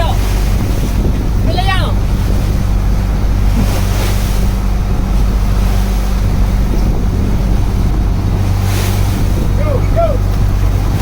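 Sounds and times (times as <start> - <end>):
boat engine humming: 0.0 - 11.0
sea wash: 0.0 - 11.0
wind noise on microphone: 0.0 - 11.0.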